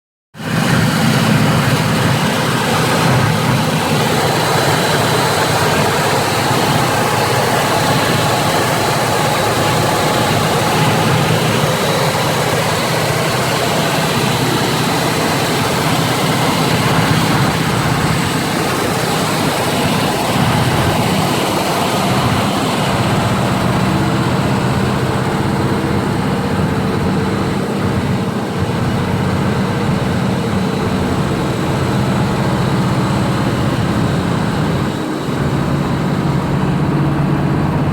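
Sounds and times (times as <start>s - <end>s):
car engine running steadily: 0.4s - 37.9s.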